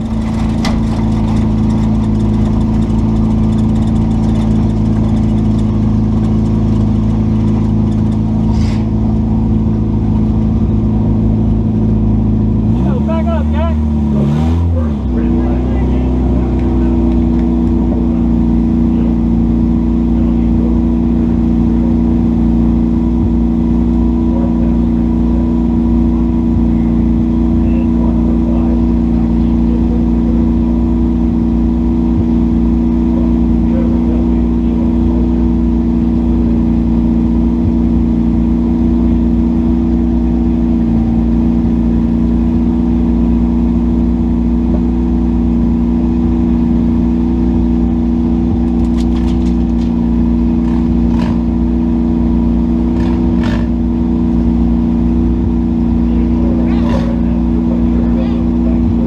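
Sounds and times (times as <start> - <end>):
race car engine running loud: 0.0 - 59.0.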